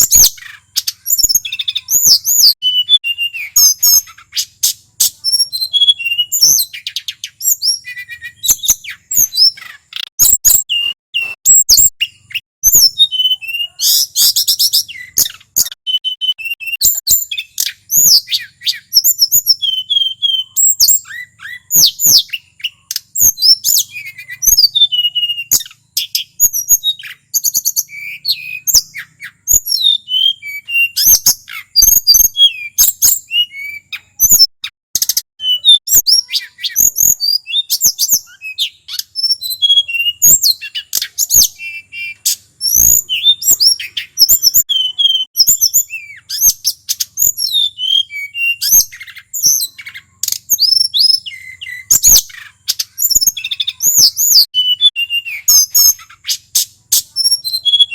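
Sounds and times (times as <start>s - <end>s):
flycatcher singing: 0.0s - 57.9s.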